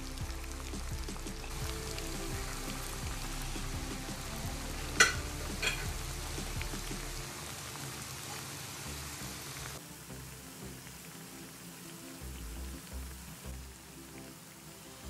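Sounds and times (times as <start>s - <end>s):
dough sizzling in hot oil: 0.0s - 15.0s.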